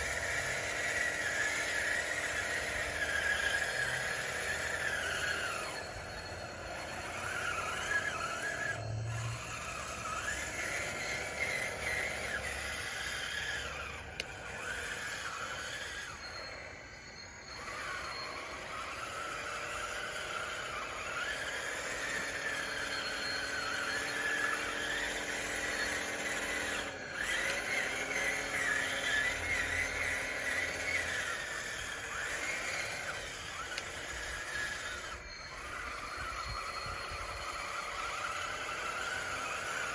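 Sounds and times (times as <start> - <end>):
model bulldozer motors whining: 0.0 - 39.9.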